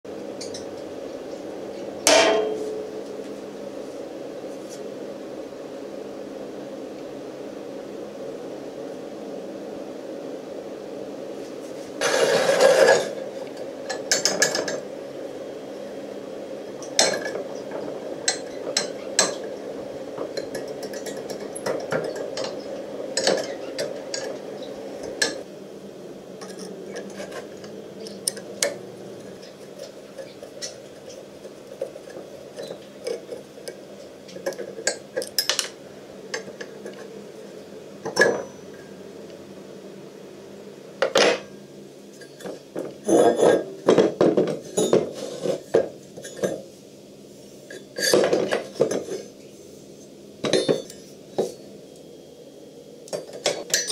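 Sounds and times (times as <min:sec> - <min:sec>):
background hum: 0:00.1 - 0:53.9.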